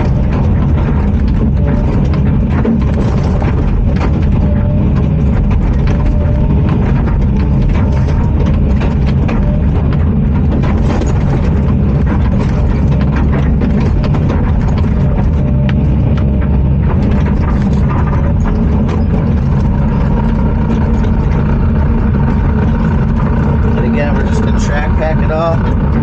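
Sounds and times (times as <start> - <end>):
bulldozer diesel engine running: 0.0 - 26.0
metallic clanks and rattles: 0.0 - 26.0.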